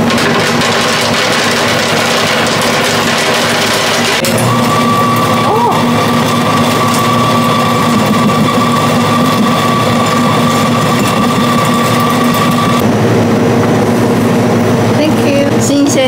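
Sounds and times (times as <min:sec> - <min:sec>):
grinder motor hum and whine: 0:00.0 - 0:16.0.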